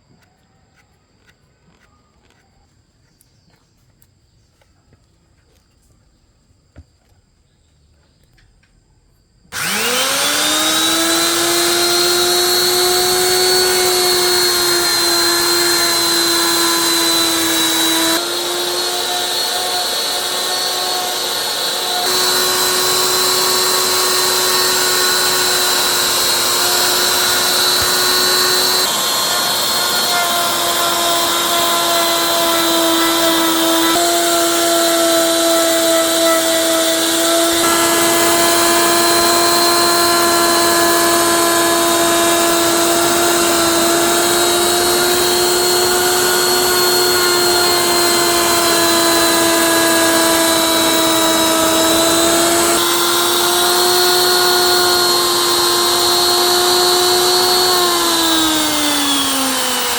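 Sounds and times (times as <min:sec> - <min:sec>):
electric motor whining and humming: 0:09.5 - 0:59.9.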